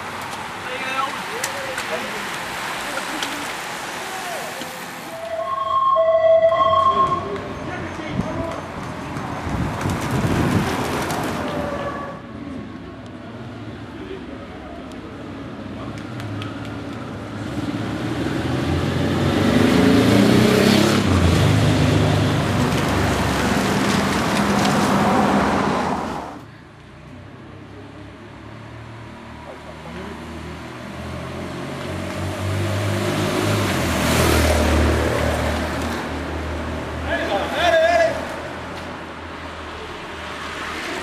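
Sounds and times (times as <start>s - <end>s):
vehicles passing close: 0.0s - 41.0s.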